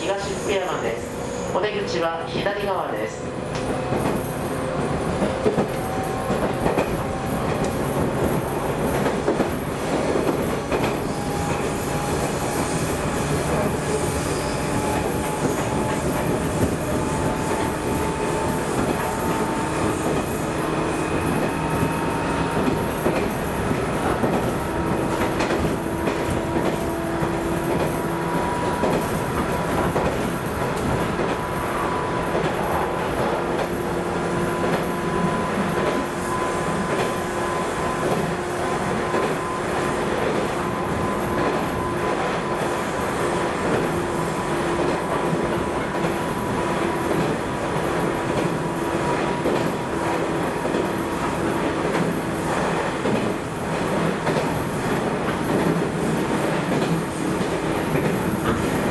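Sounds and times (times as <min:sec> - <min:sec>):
train wheels rolling on rail: 0:00.0 - 0:58.9.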